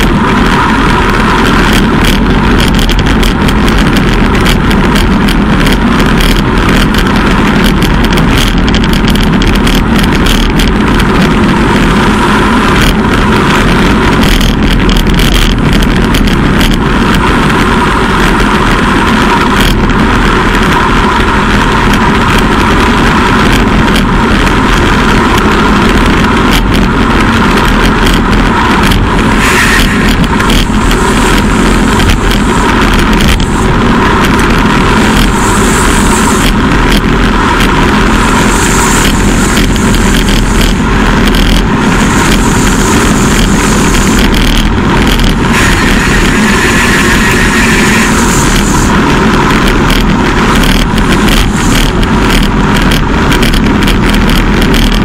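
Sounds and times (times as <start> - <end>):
wind rush over microphone: 0.0 - 55.0.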